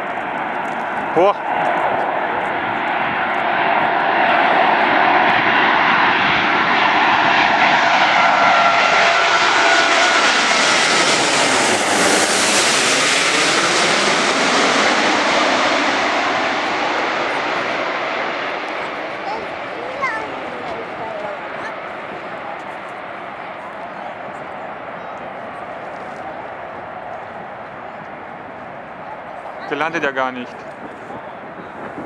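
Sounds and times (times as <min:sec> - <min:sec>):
jet airliner flying overhead: 0:00.0 - 0:32.0.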